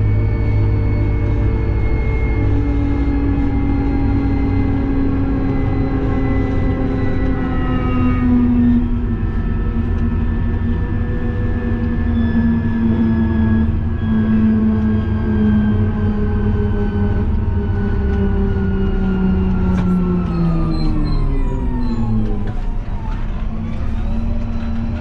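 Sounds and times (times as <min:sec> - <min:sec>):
drivetrain whining: 0:00.0 - 0:25.0
tractor diesel engine droning: 0:00.0 - 0:25.0.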